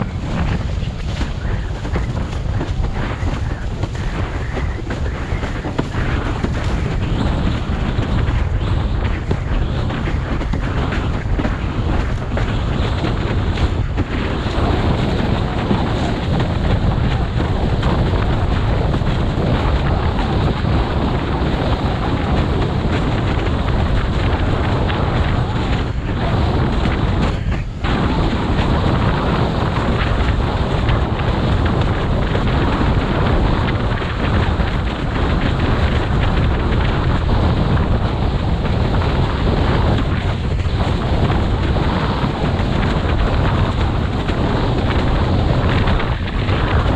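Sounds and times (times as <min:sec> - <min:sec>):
water rushing under board: 0:00.0 - 0:46.9
wind buffeting microphone: 0:00.0 - 0:46.9.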